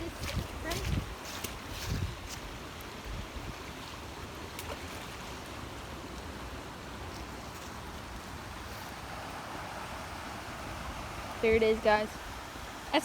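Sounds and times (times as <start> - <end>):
floodwater rushing in creek: 0.0 - 13.0.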